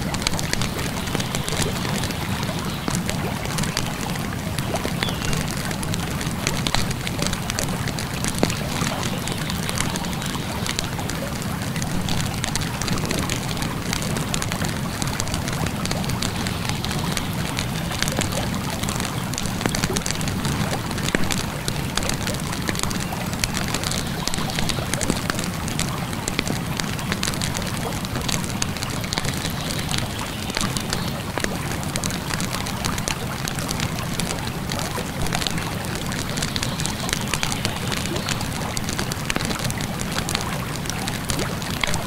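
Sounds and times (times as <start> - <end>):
campfire crackling and popping: 0.0 - 42.0
flowing river water: 0.0 - 42.0.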